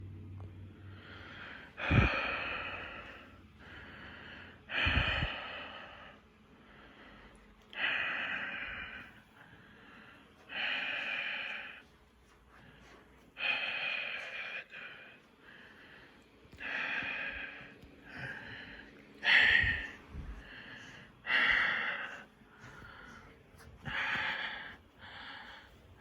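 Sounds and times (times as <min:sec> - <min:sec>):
person breathing hard: 0:00.7 - 0:26.0.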